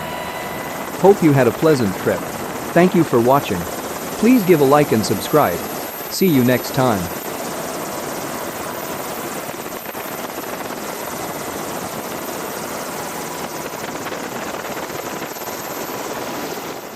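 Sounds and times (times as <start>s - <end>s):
helicopter engine and rotors: 0.0s - 16.9s.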